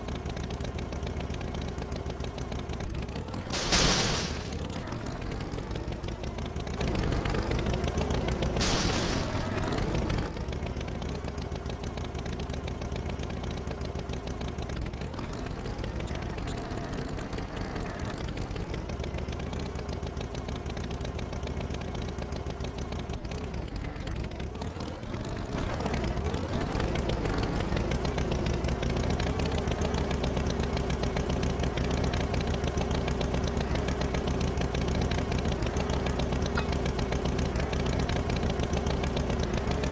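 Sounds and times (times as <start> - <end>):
cartoon tractor engine running: 0.0 - 39.9.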